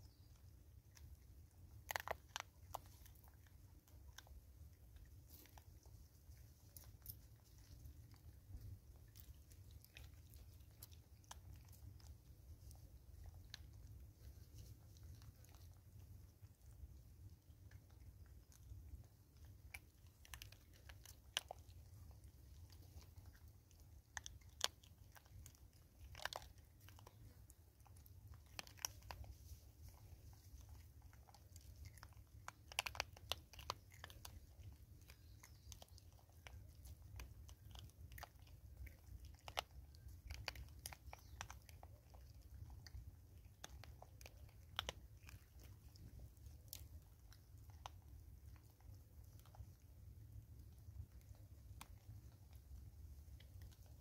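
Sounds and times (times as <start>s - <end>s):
faint low rumble: 0.0s - 54.0s
monkeys crunching seeds: 0.0s - 54.0s.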